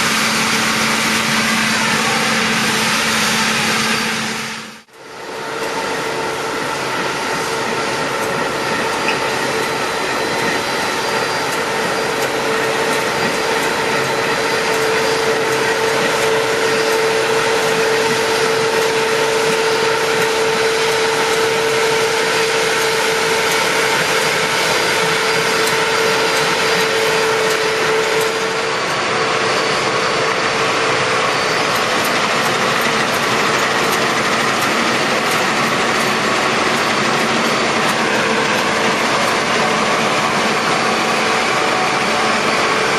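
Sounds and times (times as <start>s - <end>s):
combine harvester running: 0.0s - 42.9s
steady machine whine: 0.0s - 42.9s.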